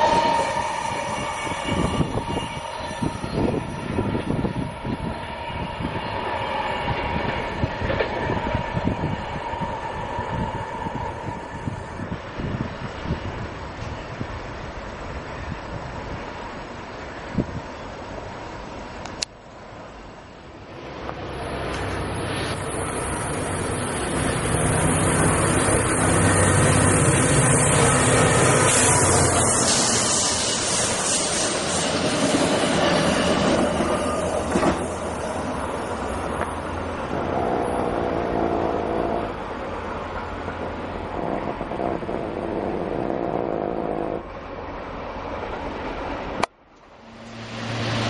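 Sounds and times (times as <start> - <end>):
wheels hissing on rail: 0.0 - 18.6, 20.8 - 46.4
diesel locomotive engine drone: 0.0 - 48.0.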